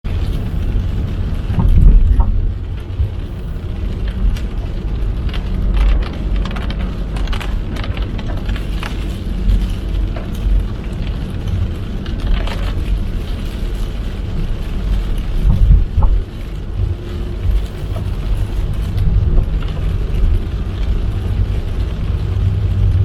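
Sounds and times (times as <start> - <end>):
car tyres and engine rumbling: 0.0 - 23.0
raindrops tapping on car: 0.1 - 23.0.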